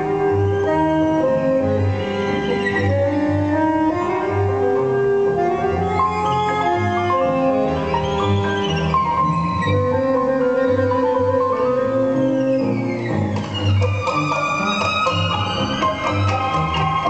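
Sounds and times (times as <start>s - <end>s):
tango music over loudspeakers: 0.0s - 17.0s.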